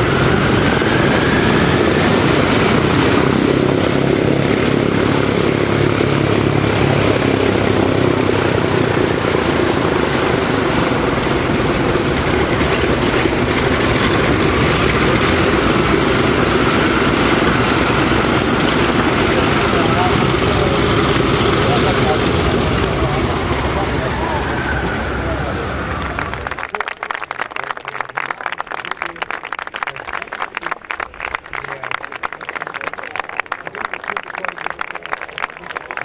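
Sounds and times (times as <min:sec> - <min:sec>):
propeller engine drone: 0:00.0 - 0:36.0.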